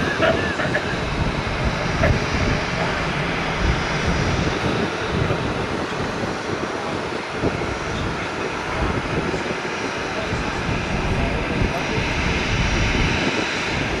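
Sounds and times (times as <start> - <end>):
jet airliner engines roaring: 0.0 - 14.0.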